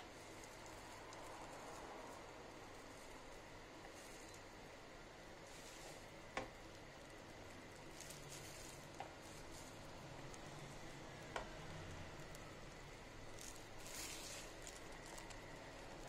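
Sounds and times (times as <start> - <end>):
broth simmering in saucepan: 0.0 - 16.0.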